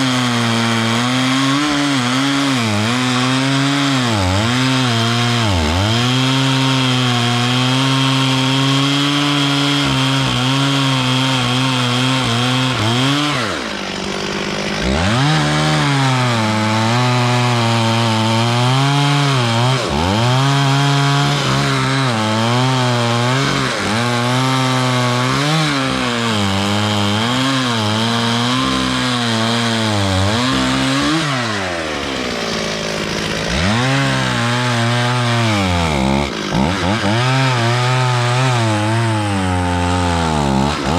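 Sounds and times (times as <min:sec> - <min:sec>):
chainsaw sawing wood: 0:00.0 - 0:40.9.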